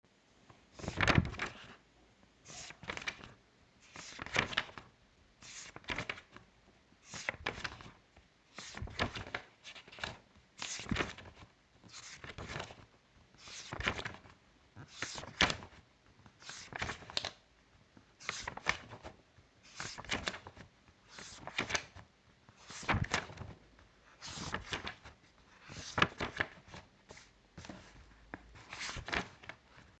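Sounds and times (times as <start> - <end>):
paper pages turning: 0.8 - 1.8, 2.5 - 6.4, 7.0 - 17.4, 18.2 - 30.0.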